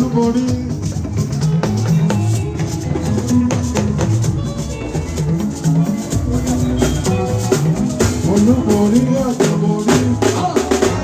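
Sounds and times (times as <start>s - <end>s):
bass line: 0.0s - 11.0s
drums and shakers: 0.0s - 11.0s.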